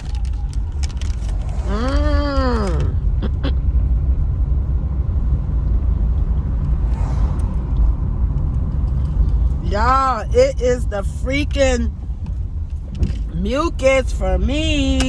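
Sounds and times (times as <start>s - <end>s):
car rumble inside cabin: 0.0s - 15.0s.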